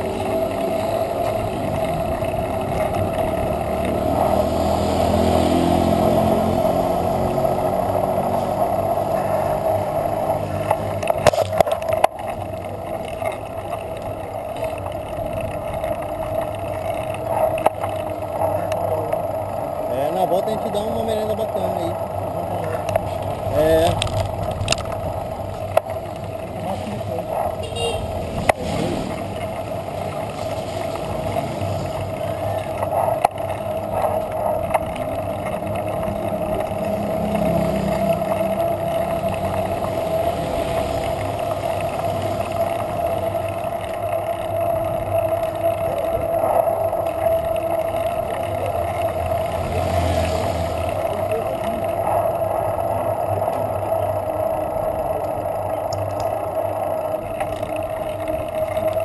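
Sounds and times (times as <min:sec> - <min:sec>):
road rumble: 0:00.0 - 0:59.0.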